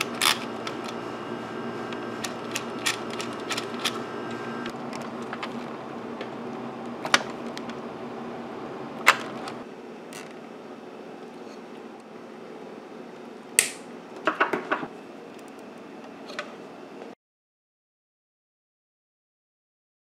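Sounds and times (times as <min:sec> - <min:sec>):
steady background hum: 0:00.0 - 0:17.2.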